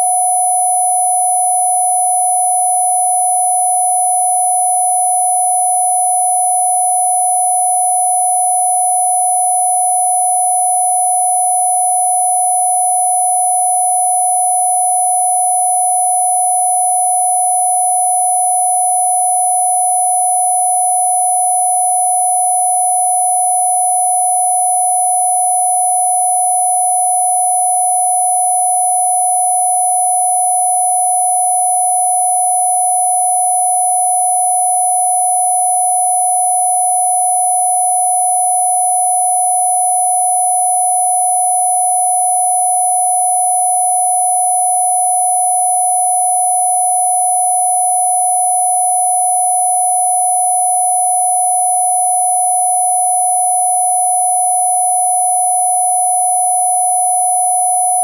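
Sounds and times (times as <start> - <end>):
mid-pitched sine tone hum: 0.0 - 58.0.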